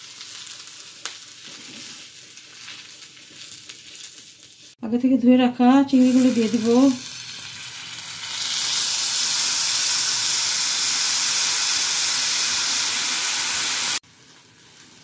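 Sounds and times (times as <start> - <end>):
oil sizzling in a frying pan: 0.0 - 4.8, 5.9 - 15.0.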